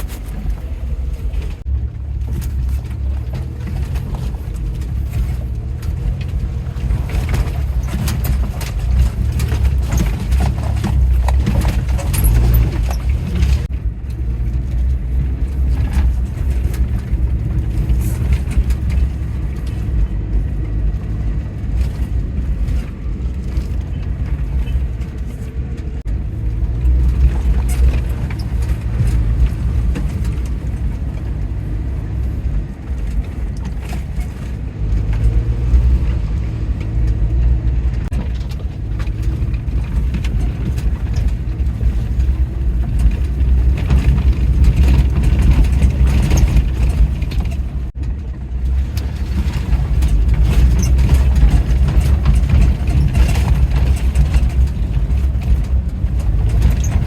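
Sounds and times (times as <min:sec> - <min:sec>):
knocks and rattles: 0:00.0 - 0:57.0
vehicle engine rumble: 0:00.0 - 0:57.0.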